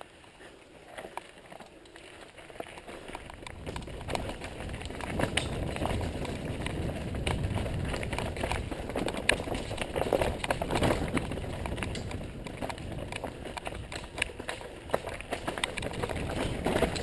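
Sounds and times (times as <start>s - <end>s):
bike tyre rumble and rattling: 0.0s - 17.0s.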